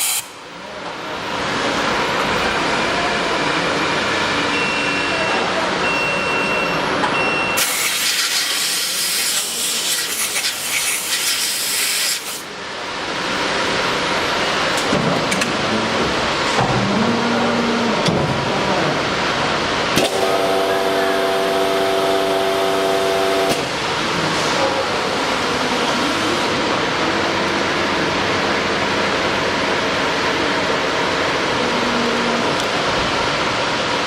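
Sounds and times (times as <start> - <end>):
industrial machinery running: 6.6 - 34.0.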